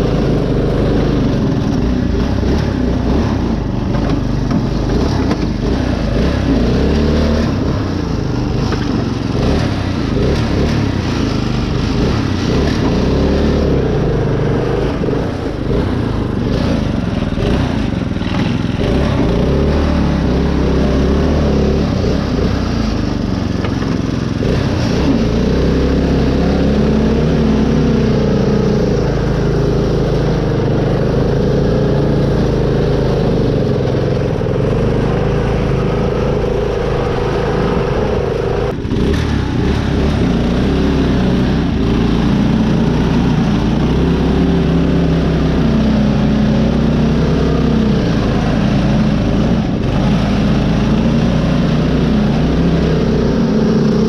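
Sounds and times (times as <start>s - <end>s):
riding mower engine under load: 0.0s - 54.0s.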